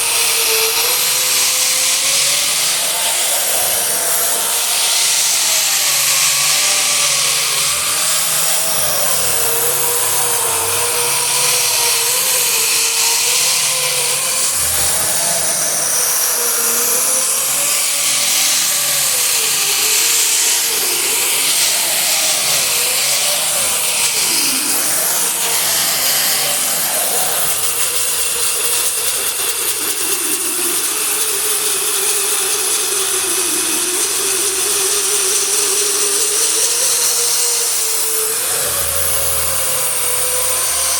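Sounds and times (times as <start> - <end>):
power sander grinding metal: 0.0 - 40.9.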